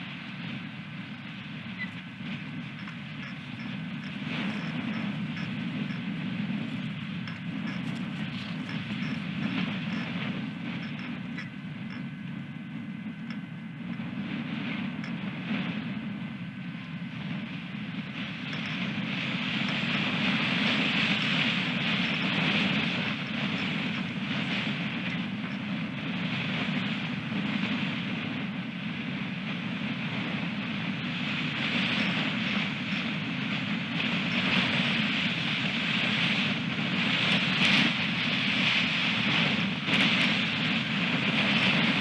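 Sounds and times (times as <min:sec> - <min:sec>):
strong gusty wind: 0:00.0 - 0:42.0.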